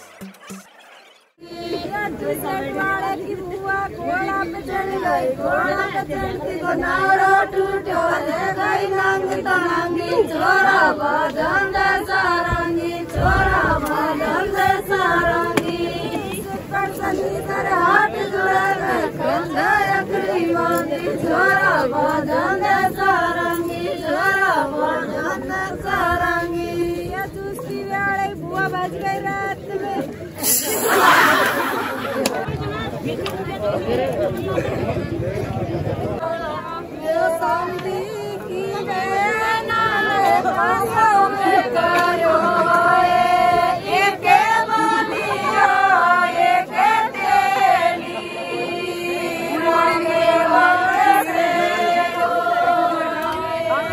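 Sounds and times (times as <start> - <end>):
women singing folk song: 1.4 - 32.4, 36.2 - 53.9.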